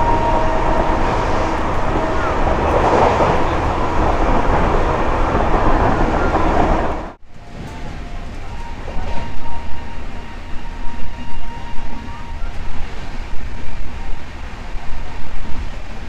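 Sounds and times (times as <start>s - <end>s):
wheel and track rumble: 0.0s - 16.0s
wind on microphone: 0.0s - 16.0s.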